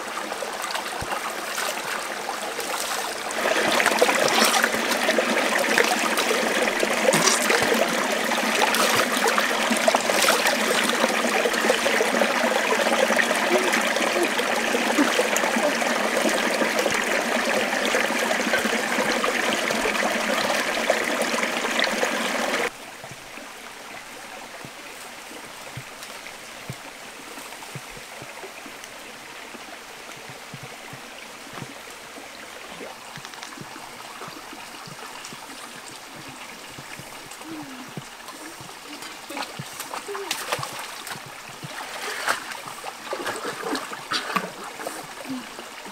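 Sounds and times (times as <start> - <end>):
water rushing in rocky stream: 0.0 - 45.9
water trickling: 0.0 - 45.9.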